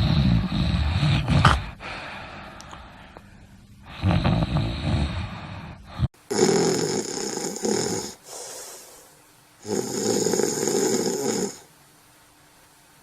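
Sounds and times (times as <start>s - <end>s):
person snoring: 0.0s - 2.9s, 3.8s - 11.7s.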